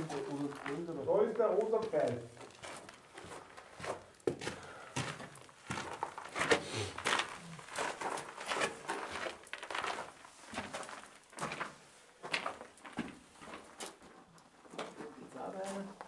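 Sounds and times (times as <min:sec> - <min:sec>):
footsteps crunching on gritty floor: 0:00.0 - 0:16.0.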